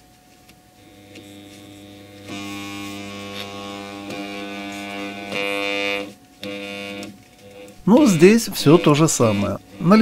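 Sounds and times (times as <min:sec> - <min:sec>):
electric motor armature humming: 0:00.8 - 0:10.0.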